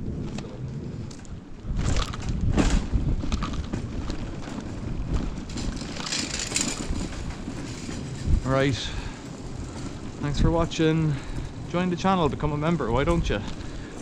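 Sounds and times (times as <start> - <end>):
wind rumbling on microphone: 0.0 - 14.0
sharp knocks and rattles: 1.1 - 14.0.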